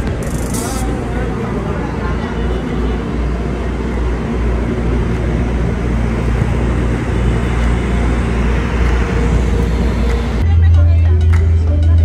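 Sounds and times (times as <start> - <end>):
ferry engine drone: 0.0 - 12.0.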